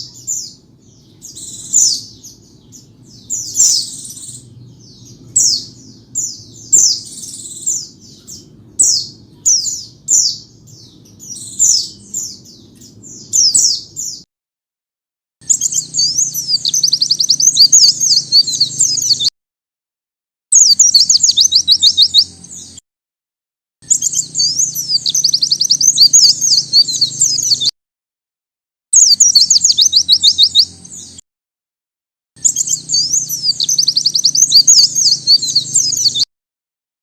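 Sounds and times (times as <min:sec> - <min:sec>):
bird chirps: 0:00.0 - 0:14.3, 0:15.4 - 0:19.3, 0:20.5 - 0:22.8, 0:23.8 - 0:27.7, 0:29.0 - 0:31.2, 0:32.4 - 0:36.3
bird twittering song: 0:00.0 - 0:14.3, 0:15.4 - 0:19.3, 0:20.5 - 0:22.8, 0:23.8 - 0:27.7, 0:29.0 - 0:31.2, 0:32.4 - 0:36.3.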